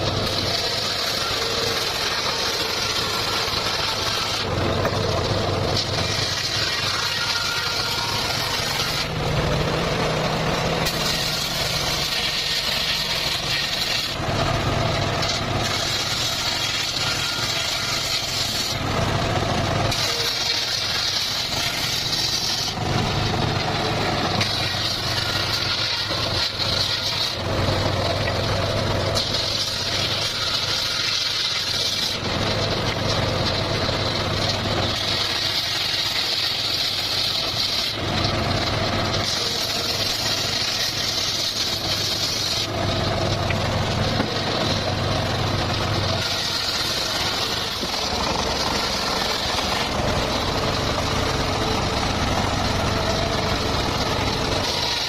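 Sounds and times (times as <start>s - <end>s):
circular saw cutting: 0.0s - 55.0s.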